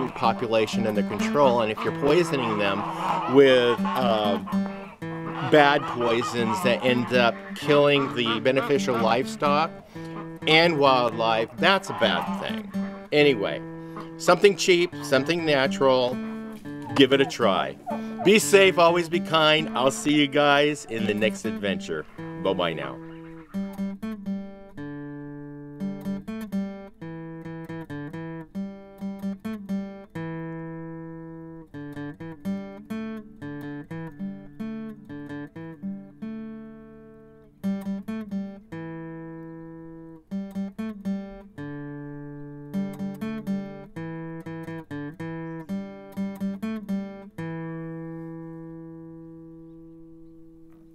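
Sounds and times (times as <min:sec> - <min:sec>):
plucked string instrument: 0:00.0 - 0:50.9.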